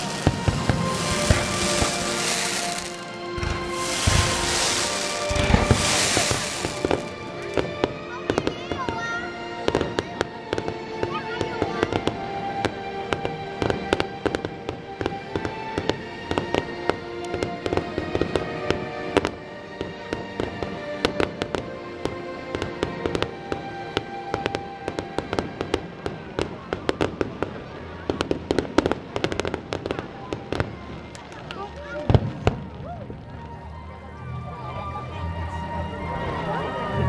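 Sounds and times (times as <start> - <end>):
fireworks bursting and crackling: 0.0 - 33.7
music playing: 0.0 - 37.0.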